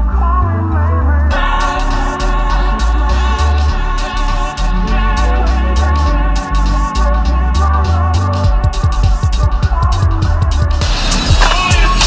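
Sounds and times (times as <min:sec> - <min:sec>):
electronic music with steady bass: 0:00.0 - 0:12.0.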